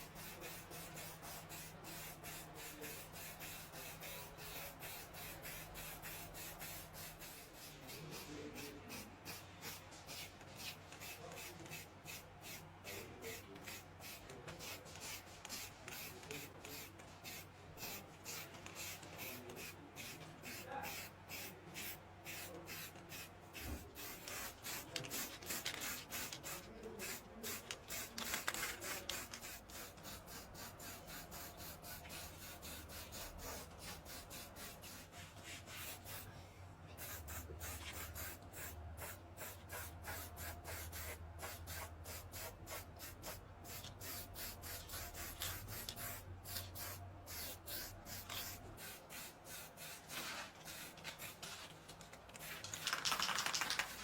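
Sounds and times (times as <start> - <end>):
rapid rubbing strokes on a surface: 0.0 - 36.3, 37.0 - 51.6.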